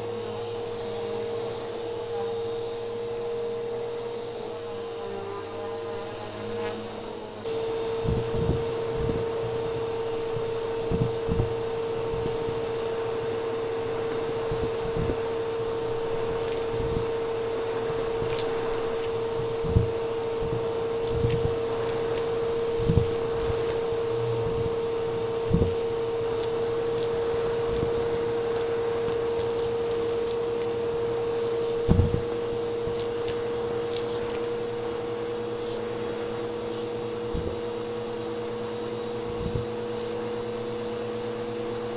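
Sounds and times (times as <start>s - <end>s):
vacuum cleaner whining: 0.0s - 41.9s.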